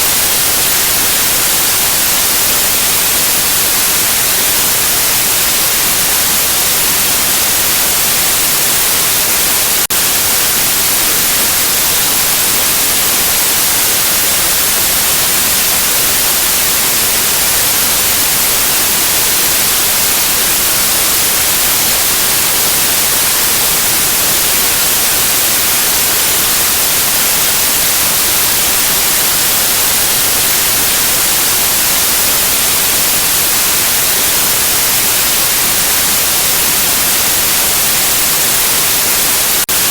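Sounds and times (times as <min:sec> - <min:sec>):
loud white noise hiss: 0:00.0 - 0:39.9.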